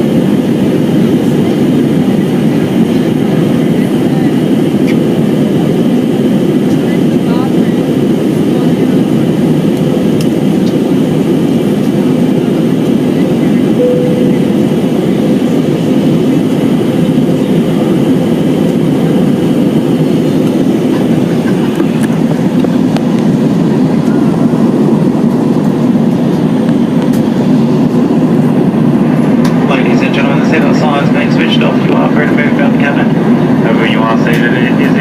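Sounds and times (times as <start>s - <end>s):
airplane cabin engine drone: 0.0s - 35.0s.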